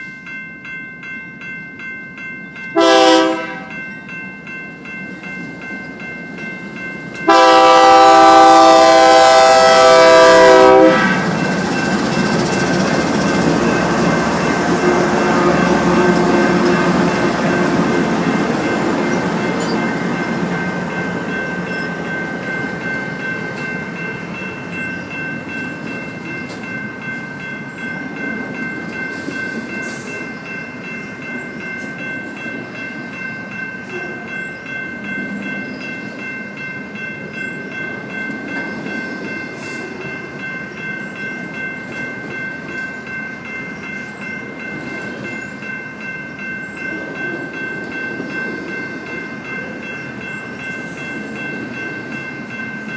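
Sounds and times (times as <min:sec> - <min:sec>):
train rumbling past on tracks: 0:01.0 - 0:52.9.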